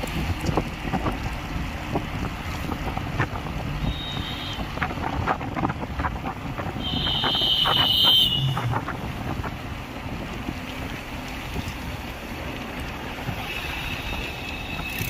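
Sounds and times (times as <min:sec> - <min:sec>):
vehicle road and wind noise: 0:00.0 - 0:15.0.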